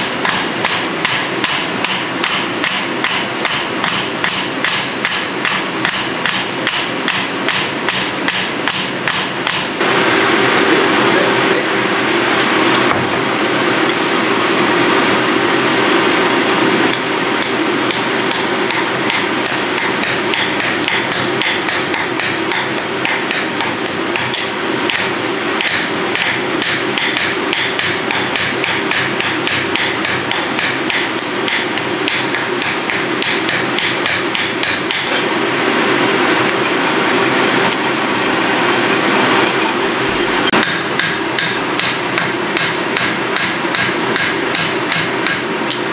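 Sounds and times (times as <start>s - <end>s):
hammers striking hot iron: 0.0s - 10.0s, 11.8s - 45.9s.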